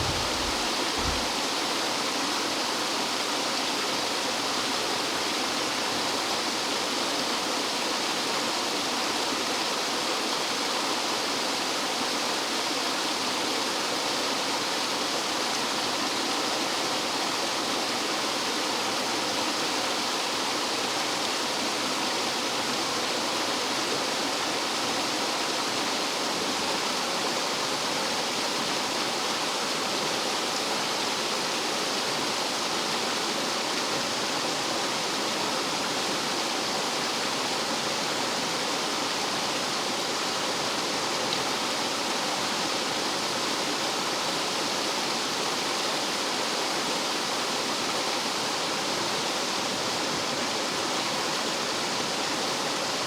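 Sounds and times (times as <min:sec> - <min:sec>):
stream water tumbling and splashing: 0:00.0 - 0:07.3, 0:16.9 - 0:53.0.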